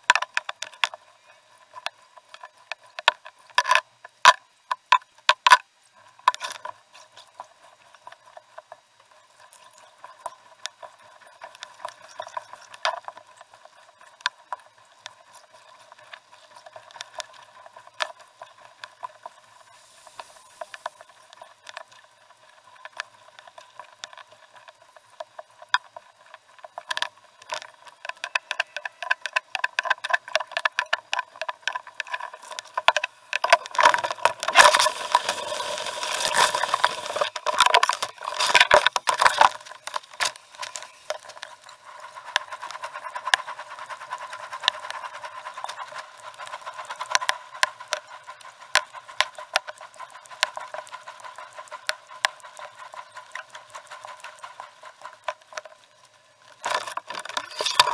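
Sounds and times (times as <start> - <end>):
water noise: 0.0 - 57.9.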